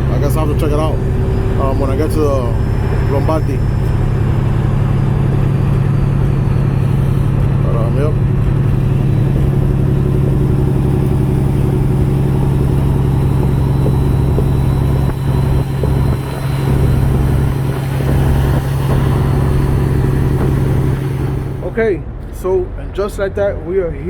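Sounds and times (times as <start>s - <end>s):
road noise: 0.0s - 24.0s
truck diesel engine running: 0.0s - 24.0s.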